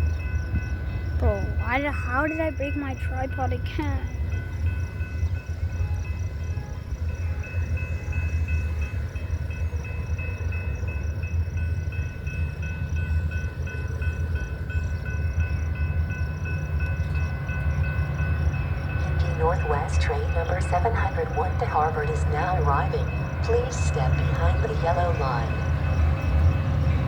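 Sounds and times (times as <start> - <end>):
train low rumble: 0.0 - 27.0.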